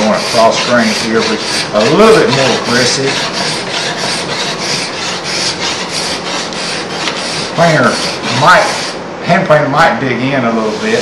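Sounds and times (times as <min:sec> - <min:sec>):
hand scraper scraping wood: 0:00.0 - 0:09.0, 0:10.6 - 0:11.0.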